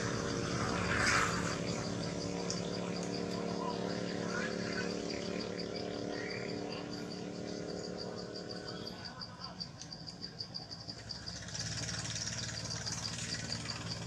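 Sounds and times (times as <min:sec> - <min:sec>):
insect chirping: 0:00.0 - 0:14.0
low mechanical hum: 0:00.0 - 0:14.0.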